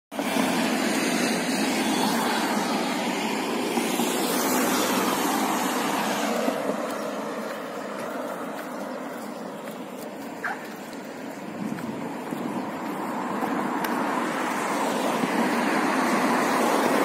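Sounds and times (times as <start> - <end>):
passing street traffic: 0.1 - 17.0.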